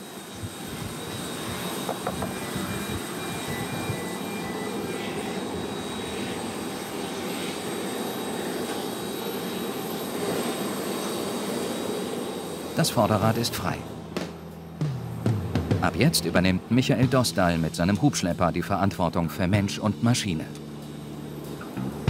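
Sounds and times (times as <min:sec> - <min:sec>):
jet turbine running with whine: 0:00.0 - 0:22.0.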